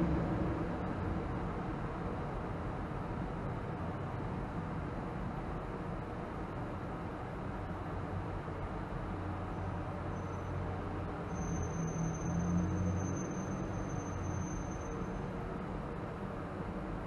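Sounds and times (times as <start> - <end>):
road and tyre noise: 0.0 - 17.0.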